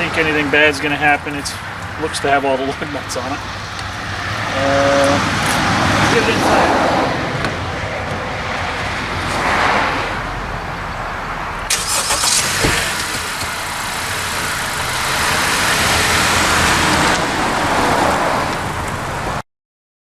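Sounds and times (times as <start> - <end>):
car engine and tyres running: 0.0 - 19.4.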